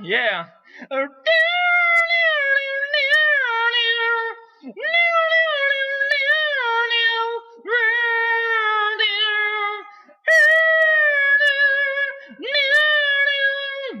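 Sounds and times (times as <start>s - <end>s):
person singing wordless notes: 0.0s - 14.0s.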